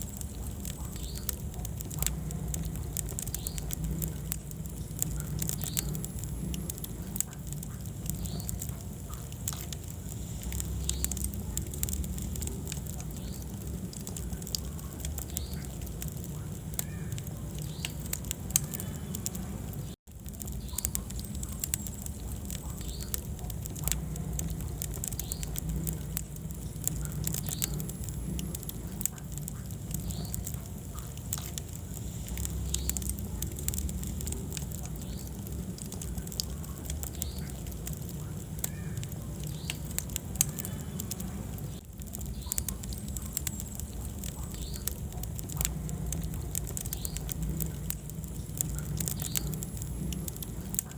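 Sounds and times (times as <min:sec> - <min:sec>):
low rumble of flames: 0:00.0 - 0:50.9
wood fire crackling and popping: 0:00.0 - 0:50.9.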